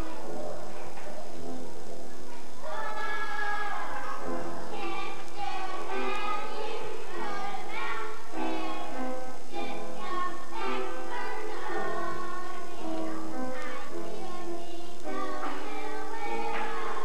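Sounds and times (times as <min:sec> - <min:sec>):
girls singing together: 0:02.1 - 0:17.0.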